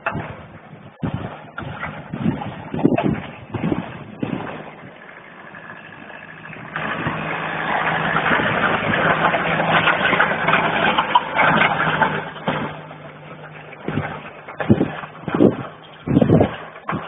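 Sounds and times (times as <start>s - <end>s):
pallet scraping over dirt: 0.0s - 17.0s
pickup engine running: 0.0s - 17.0s.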